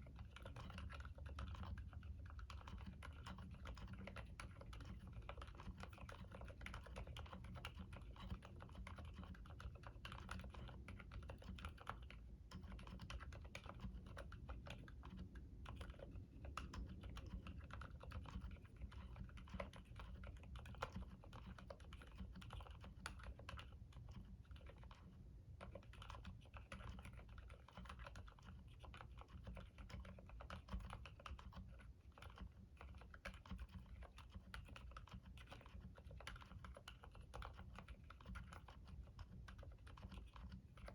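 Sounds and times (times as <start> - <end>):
quiet mechanical keyboard typing: 0.0 - 40.9.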